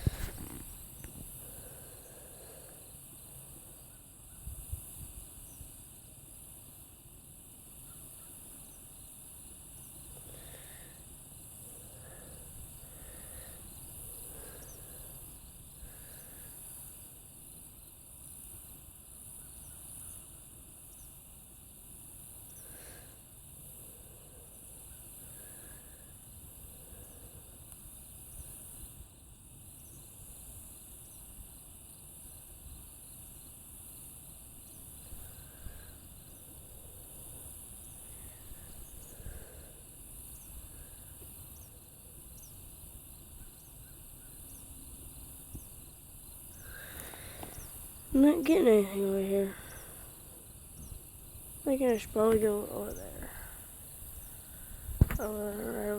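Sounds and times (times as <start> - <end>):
insects chirring chorus: 0.0 - 55.9
short faint insect calls: 0.0 - 55.9.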